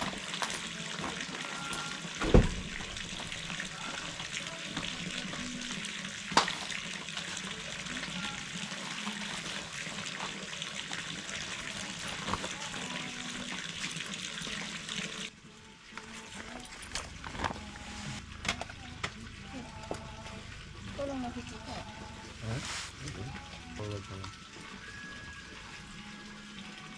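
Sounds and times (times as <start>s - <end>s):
water running from tap: 0.0s - 15.3s, 18.2s - 26.9s.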